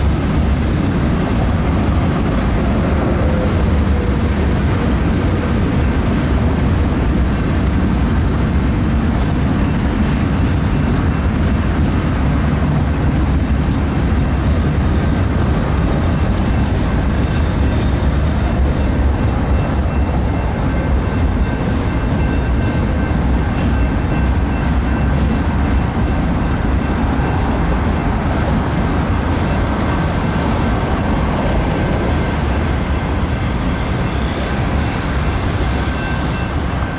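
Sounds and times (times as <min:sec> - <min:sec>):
freight train wheels rumbling: 0:00.0 - 0:36.9.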